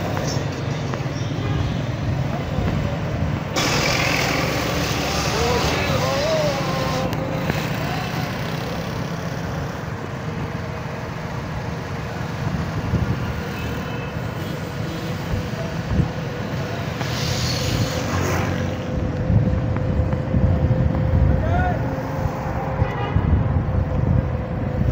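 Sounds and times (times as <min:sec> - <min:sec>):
cars and motorcycles passing: 0:00.0 - 0:24.9.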